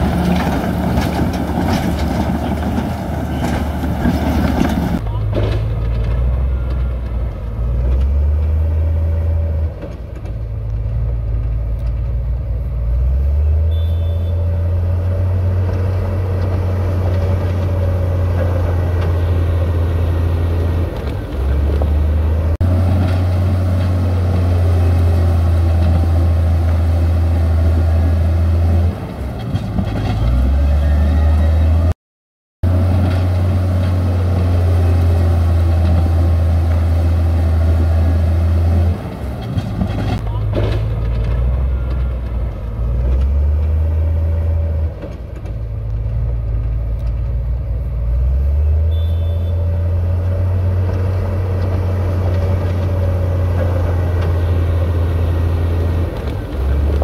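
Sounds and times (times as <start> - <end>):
heavy machinery diesel engines: 0.0 - 32.0, 32.6 - 57.0.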